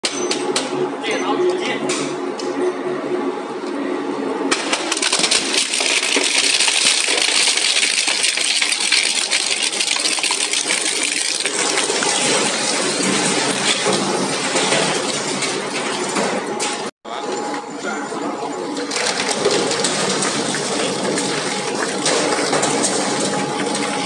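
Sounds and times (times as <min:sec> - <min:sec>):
metallic clatter of crushing: 0:04.5 - 0:24.0.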